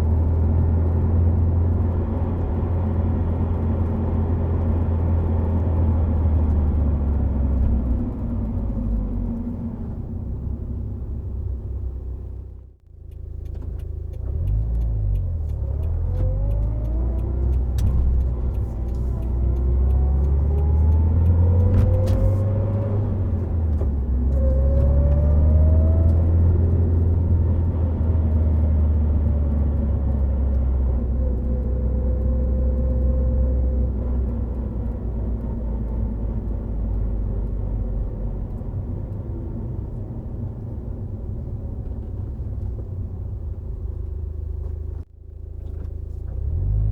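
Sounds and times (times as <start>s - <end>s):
car engine accelerating through gears: 0.0s - 46.9s
road and tyre noise: 0.0s - 46.9s.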